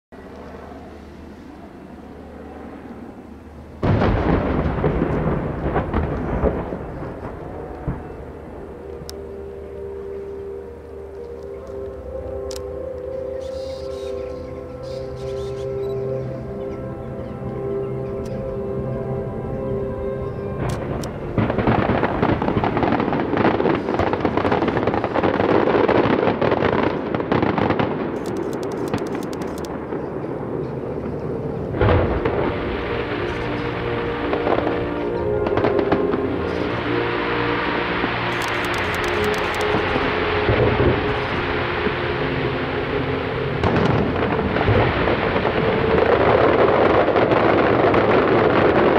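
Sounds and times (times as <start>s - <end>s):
fireworks rumble and crackling: 2.6s - 17.6s, 20.2s - 48.9s.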